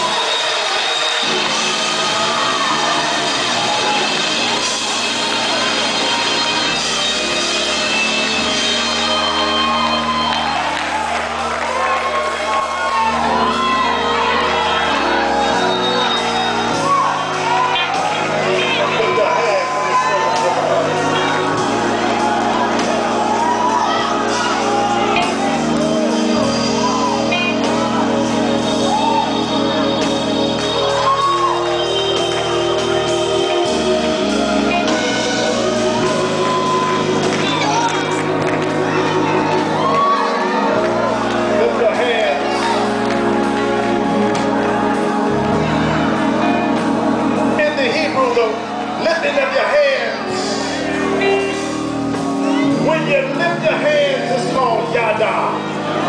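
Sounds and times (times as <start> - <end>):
congregation clapping: 0.0 - 56.0
loud gospel praise music: 0.0 - 56.0
sustained organ chords: 0.0 - 56.0.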